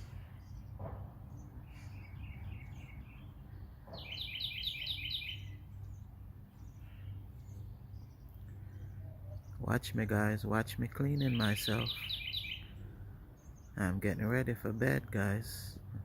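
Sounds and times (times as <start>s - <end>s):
bird song of high notes: 0.0s - 16.0s.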